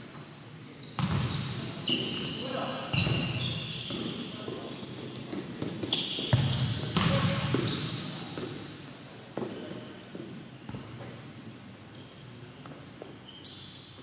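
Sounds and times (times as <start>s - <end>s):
sneakers squeaking: 0.0s - 8.8s, 9.4s - 14.0s.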